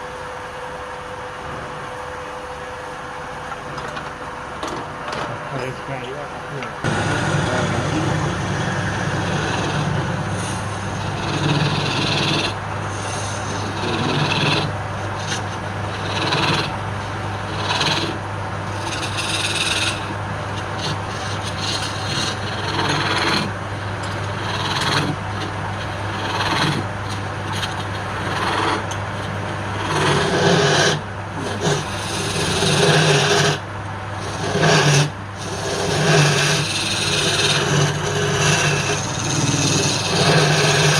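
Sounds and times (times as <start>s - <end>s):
lathe motor hum: 0.0s - 40.9s
tool scraping spinning wood: 6.8s - 40.9s.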